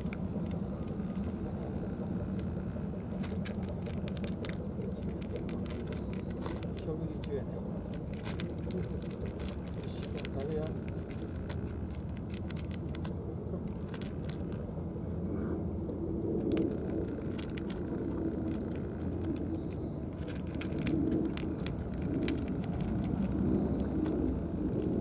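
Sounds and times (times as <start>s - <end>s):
cats chewing and lapping: 0.0s - 25.0s
steady low rumble: 0.0s - 25.0s.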